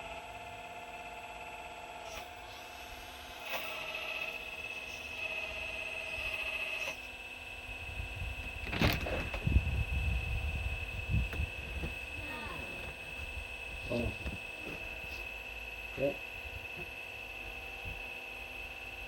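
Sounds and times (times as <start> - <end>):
excavator high whine: 0.0 - 19.0
motor whir: 0.0 - 19.0.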